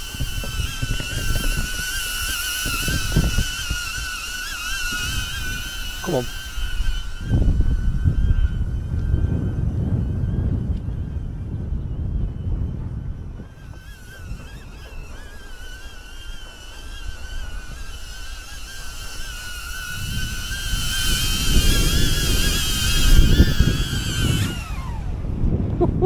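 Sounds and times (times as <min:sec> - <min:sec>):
drone propellers whining: 0:00.0 - 0:26.0
wind buffeting microphone: 0:00.0 - 0:26.0.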